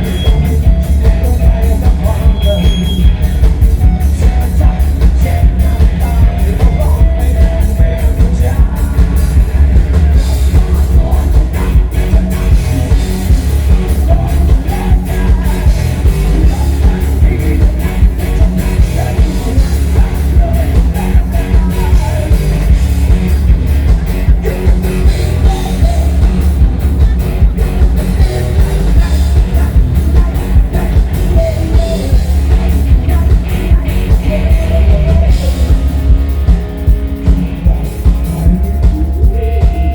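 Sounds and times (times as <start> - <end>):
live rock band playing: 0.0 - 39.9
man singing: 0.0 - 39.9.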